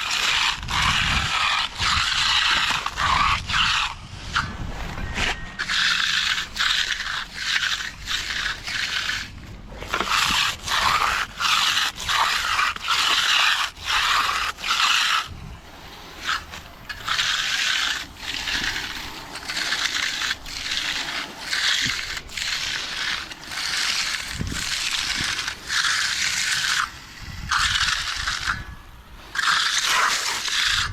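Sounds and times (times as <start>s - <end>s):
trowel scraping wet concrete: 0.0s - 30.9s.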